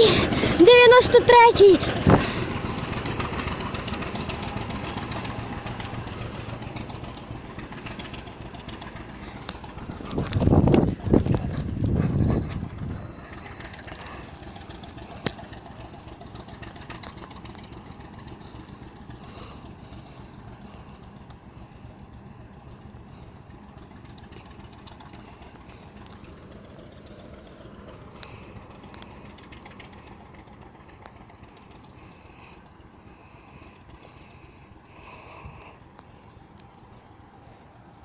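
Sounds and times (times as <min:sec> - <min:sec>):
distant diesel locomotive engine: 0:00.0 - 0:38.0.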